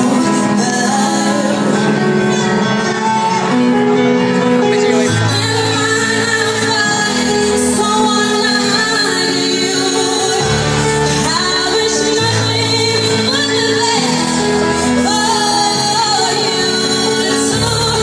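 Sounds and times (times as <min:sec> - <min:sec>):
instrumental accompaniment: 0:00.0 - 0:18.0
woman singing into microphone: 0:00.0 - 0:18.0.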